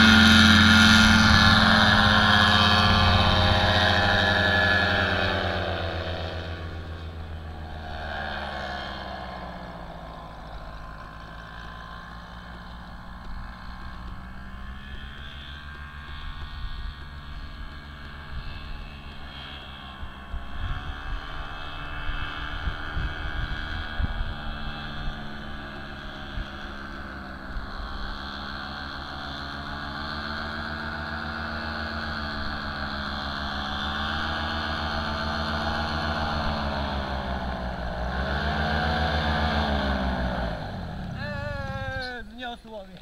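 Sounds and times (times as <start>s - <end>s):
paramotor engine droning: 0.0s - 43.0s.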